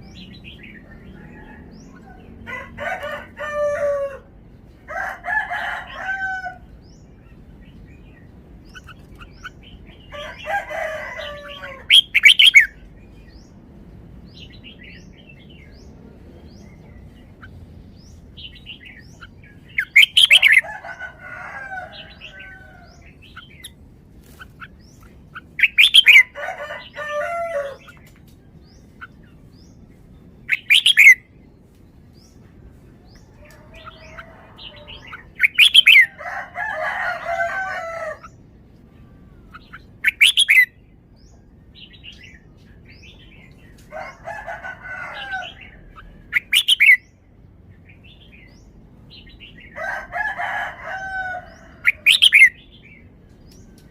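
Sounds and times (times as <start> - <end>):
bird singing warbled phrases: 0.0 - 53.9.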